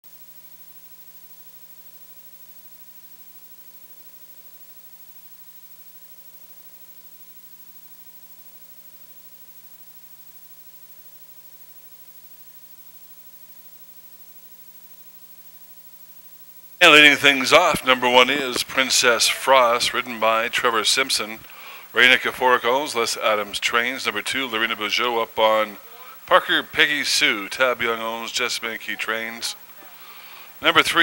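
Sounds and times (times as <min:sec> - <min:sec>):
faint steady hiss: 0:00.1 - 0:31.0
low electrical hum: 0:00.1 - 0:31.0.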